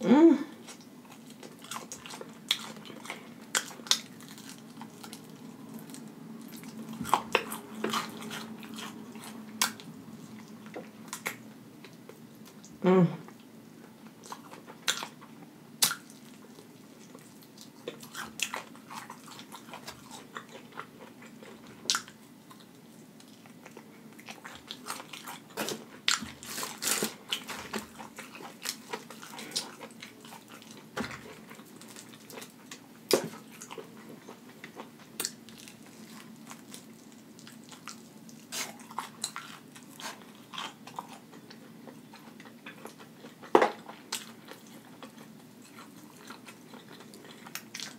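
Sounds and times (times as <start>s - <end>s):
person chewing crunchy chicken: 0.6s - 12.7s, 14.0s - 47.9s.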